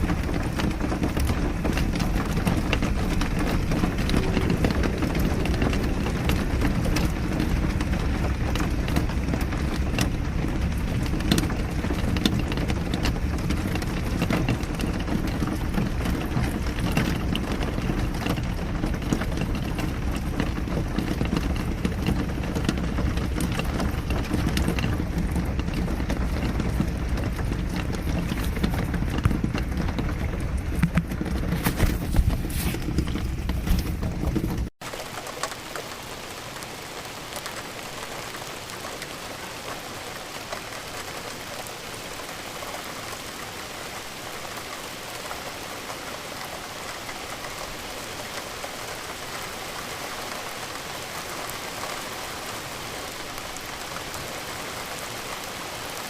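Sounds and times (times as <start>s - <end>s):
raindrops tapping: 0.0s - 56.0s
steady rain: 0.0s - 56.0s.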